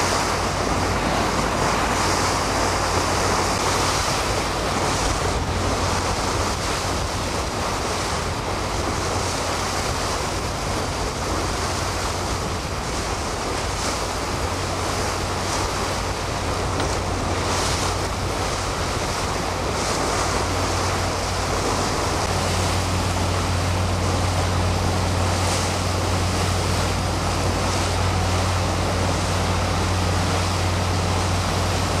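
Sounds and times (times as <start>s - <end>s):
wind buffeting the microphone: 0.0s - 32.0s.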